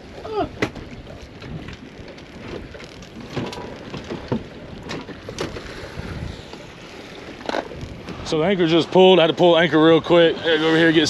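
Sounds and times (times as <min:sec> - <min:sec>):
water splashing on boat: 0:00.0 - 0:11.0
wind: 0:00.0 - 0:11.0.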